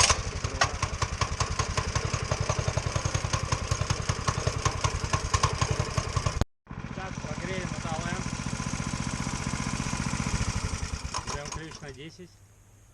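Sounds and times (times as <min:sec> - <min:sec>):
motorcycle engine starting and idling: 0:00.0 - 0:12.2.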